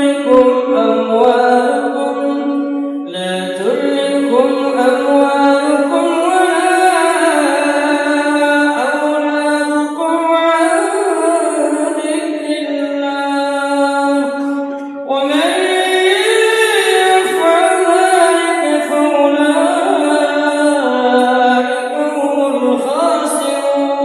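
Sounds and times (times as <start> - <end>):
man chanting melodically: 0.0 - 24.0.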